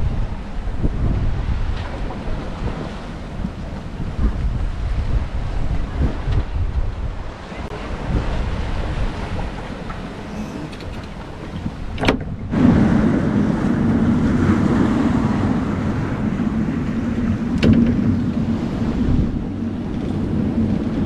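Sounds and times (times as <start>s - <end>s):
waves breaking: 0.0s - 21.0s
wind: 0.0s - 21.0s
wind buffeting microphone: 0.0s - 21.0s.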